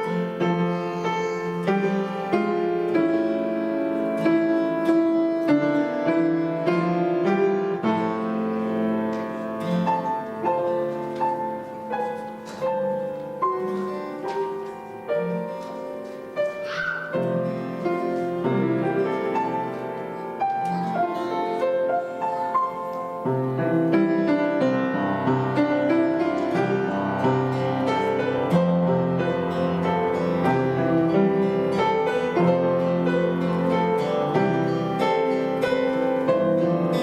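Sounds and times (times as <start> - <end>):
piano playing hymn chords: 0.0 - 37.0.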